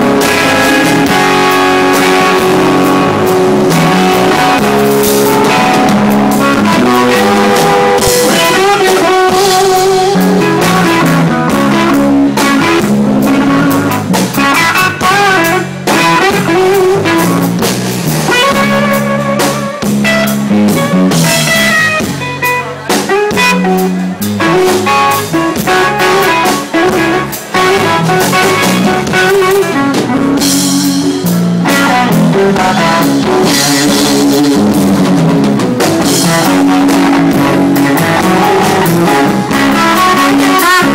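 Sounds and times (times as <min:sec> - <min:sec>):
drum kit: 0:00.0 - 0:40.9
electric guitar playing: 0:00.0 - 0:40.9.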